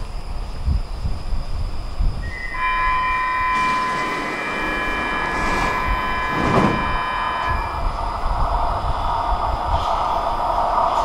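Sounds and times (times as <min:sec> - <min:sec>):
metro train electrical whine: 0:00.0 - 0:11.0
train rolling: 0:00.0 - 0:11.0.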